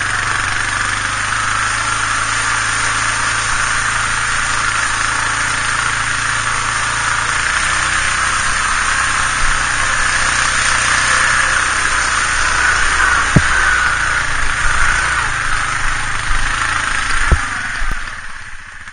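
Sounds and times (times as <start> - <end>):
quad engine running: 0.0 - 18.9
water splashing from wheels: 0.0 - 18.9.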